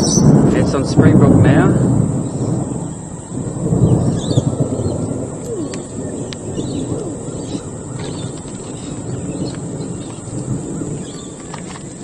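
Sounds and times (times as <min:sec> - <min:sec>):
birds chirping: 0:00.0 - 0:12.0
rolling thunder: 0:00.0 - 0:12.0.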